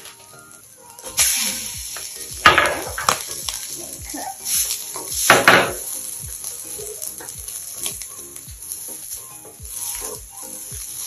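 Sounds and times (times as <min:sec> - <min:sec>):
music with a steady beat: 0:00.0 - 0:11.0
rice and egg sizzling in a wok: 0:00.0 - 0:11.0
spatula stirring in a wok: 0:01.0 - 0:11.0.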